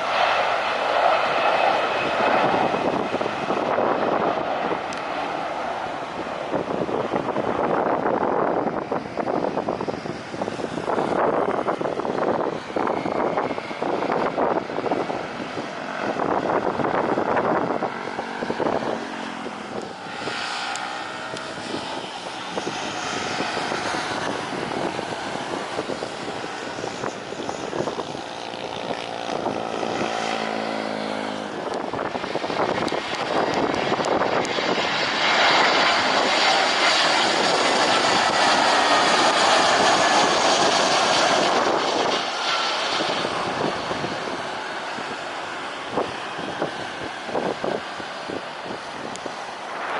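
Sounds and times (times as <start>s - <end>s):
high engine whine: 0.0s - 49.9s
jet engine roar: 0.0s - 49.9s
wind on microphone: 0.0s - 49.9s.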